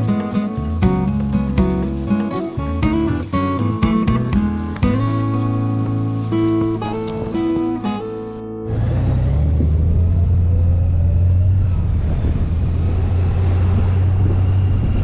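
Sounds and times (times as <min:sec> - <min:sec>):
motorcycle engine rumble: 0:00.0 - 0:15.0
wind noise: 0:00.0 - 0:15.0.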